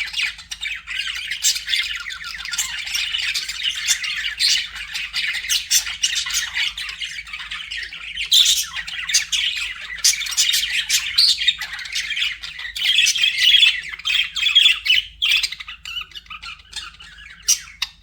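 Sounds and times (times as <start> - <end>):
budgerigars chattering: 0.0 - 18.0
sharp bird calls: 0.0 - 18.0.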